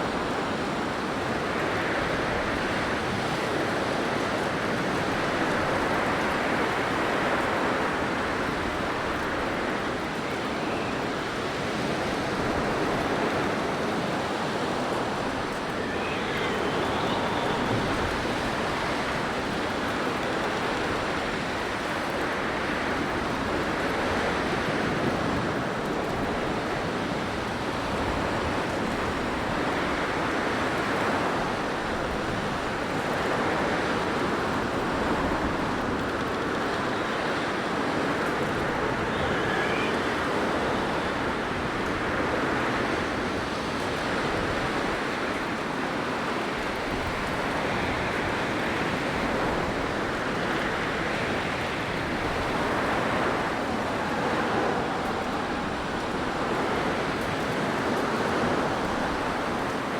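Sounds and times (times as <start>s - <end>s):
blizzard wind blowing hard: 0.0s - 59.9s.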